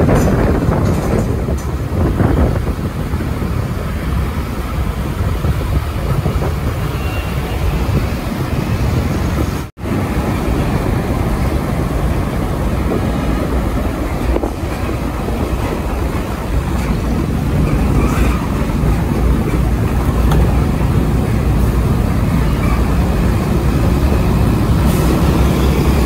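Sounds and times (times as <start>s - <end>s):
truck engine and road rumble: 0.0s - 26.0s
wind on microphone: 0.0s - 26.0s.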